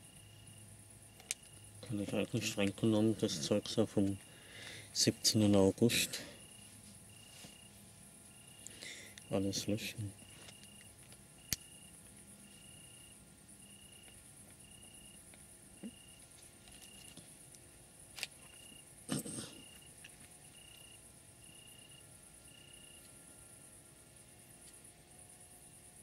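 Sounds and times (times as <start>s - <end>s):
insects trilling: 0.0s - 26.0s
lower insect chirp: 0.0s - 26.0s.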